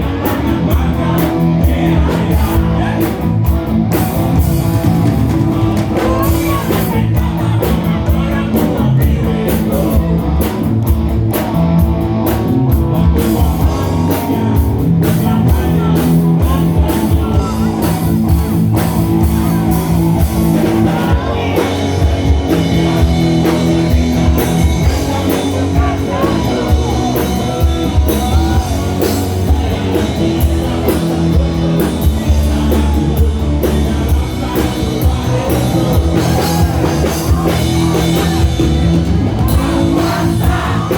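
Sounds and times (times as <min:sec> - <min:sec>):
bass guitar: 0:00.0 - 0:40.9
drum kit beat: 0:00.0 - 0:40.9
electric guitar: 0:00.0 - 0:40.9.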